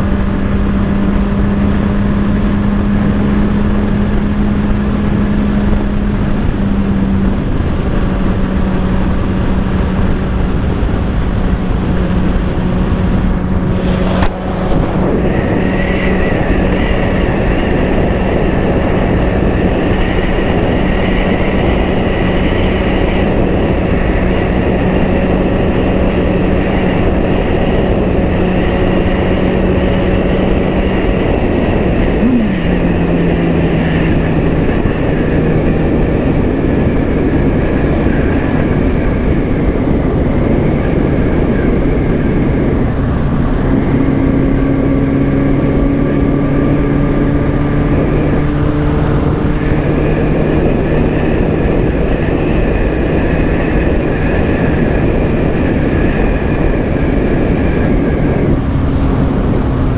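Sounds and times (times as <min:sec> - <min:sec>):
loud riding wind rush: 0:00.0 - 0:59.9
motorcycle engine cruising: 0:00.0 - 0:59.9
high whine: 0:02.8 - 0:38.6, 0:45.9 - 0:59.9.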